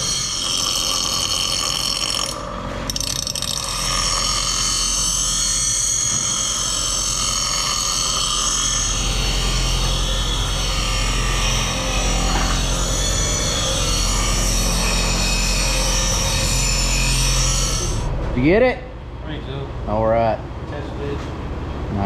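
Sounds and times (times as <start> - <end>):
bench grinder grinding metal: 0.0 - 18.1
grinder motor whine: 0.0 - 18.2.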